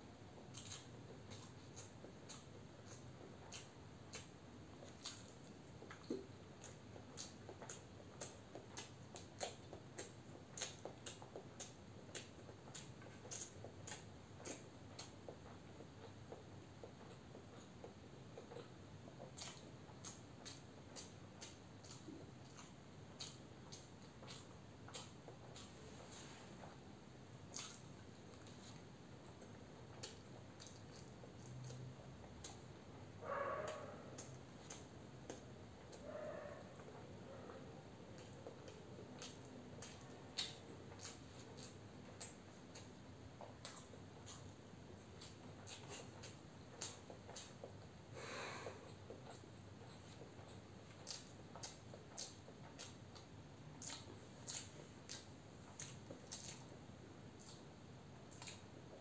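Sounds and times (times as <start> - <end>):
person chewing with wet clicks: 0.0 - 59.0.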